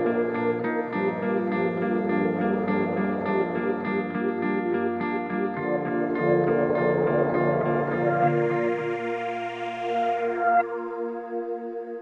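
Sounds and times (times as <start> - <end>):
instrumental intro music: 0.0 - 12.0.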